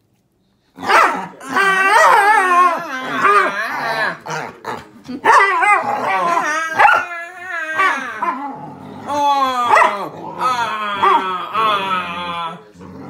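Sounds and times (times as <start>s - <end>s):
dog growling and barking: 0.8s - 13.0s.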